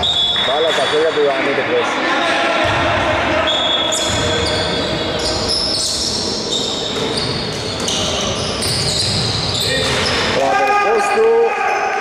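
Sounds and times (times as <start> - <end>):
players' voices: 0.2 - 11.9.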